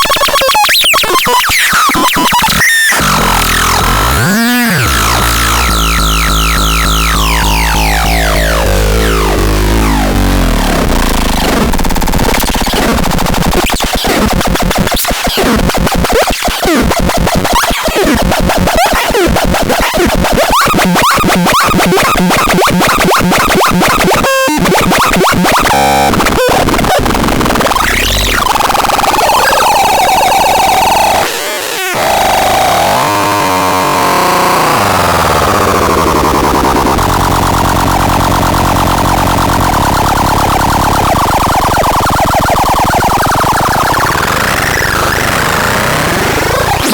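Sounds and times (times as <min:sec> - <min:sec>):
harsh electronic noise: 0:00.0 - 0:46.9.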